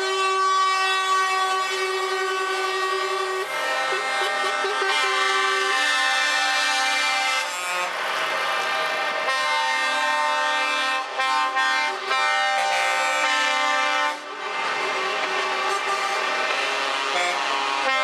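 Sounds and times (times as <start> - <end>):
truck air horn blasts: 0.1 - 7.9, 9.3 - 14.3, 15.6 - 18.0.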